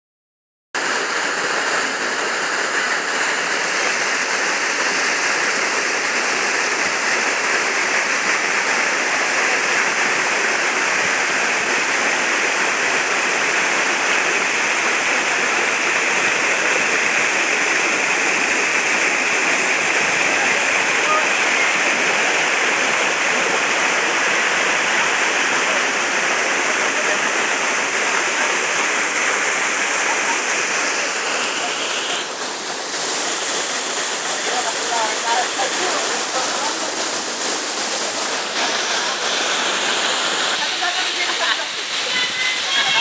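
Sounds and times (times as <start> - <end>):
waterfall rushing: 0.8 - 43.0.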